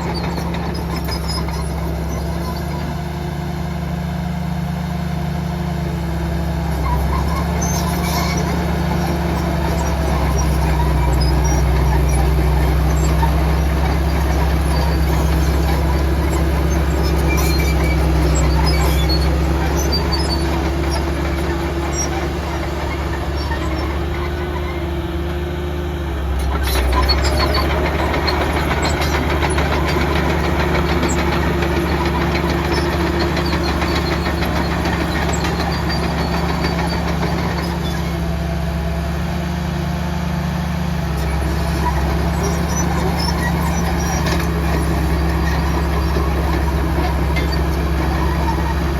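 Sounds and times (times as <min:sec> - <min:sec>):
heavy diesel machinery running: 0:00.0 - 0:48.9.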